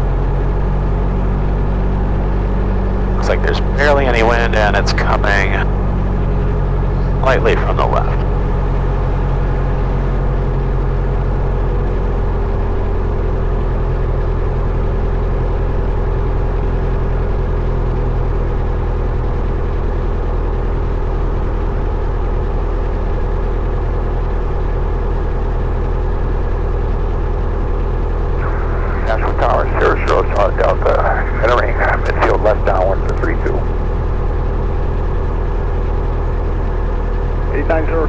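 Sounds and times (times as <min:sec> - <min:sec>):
propeller plane engine droning: 0:00.0 - 0:38.0.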